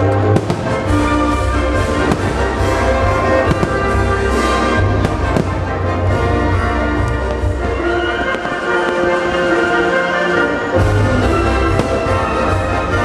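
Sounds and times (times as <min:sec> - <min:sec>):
fireworks bursting: 0:00.0 - 0:13.0
orchestral music with brass: 0:00.0 - 0:13.0.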